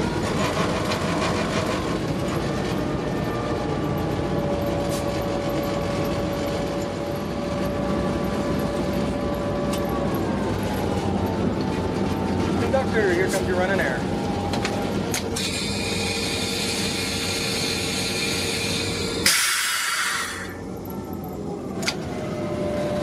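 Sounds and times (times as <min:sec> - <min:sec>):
diesel locomotive engine running: 0:00.0 - 0:23.0
traction motor whine: 0:00.0 - 0:23.0.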